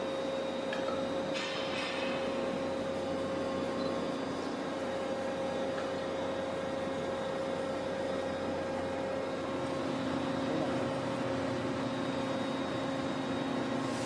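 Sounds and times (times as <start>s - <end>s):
lower machine tone: 0.0s - 14.0s
machine humming: 0.0s - 14.0s.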